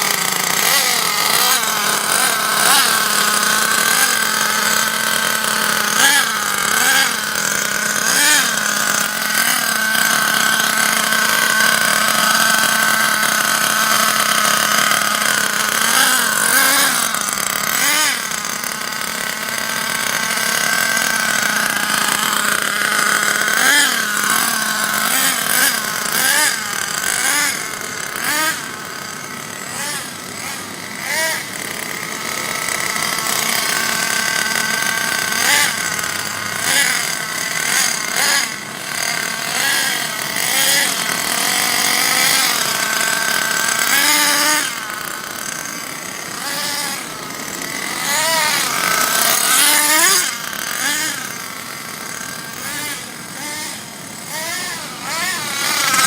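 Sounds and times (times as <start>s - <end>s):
small nitro engine revving: 0.0s - 56.0s.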